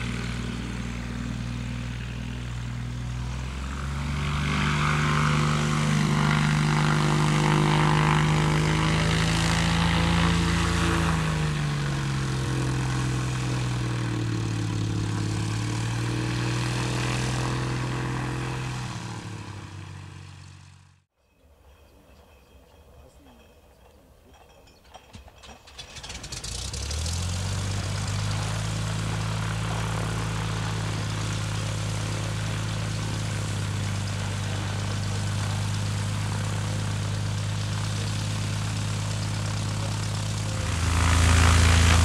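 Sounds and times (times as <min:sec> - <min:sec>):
aircraft piston engine and propeller: 0:00.0 - 0:21.1, 0:25.2 - 0:42.0.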